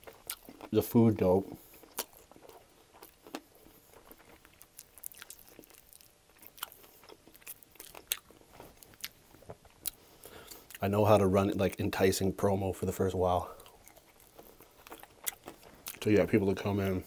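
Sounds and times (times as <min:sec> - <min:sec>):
man chewing crunchy food: 0:00.0 - 0:10.8, 0:13.4 - 0:16.5.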